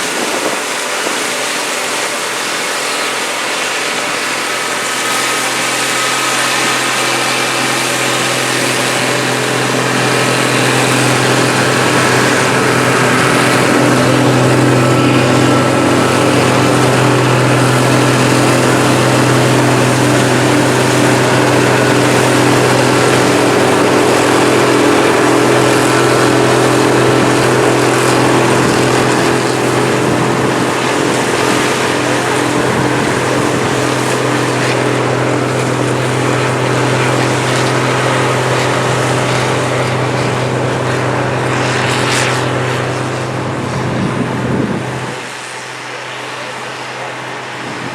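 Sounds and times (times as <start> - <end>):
machinery engine humming: 0.0 - 47.9
high whine: 2.1 - 47.9.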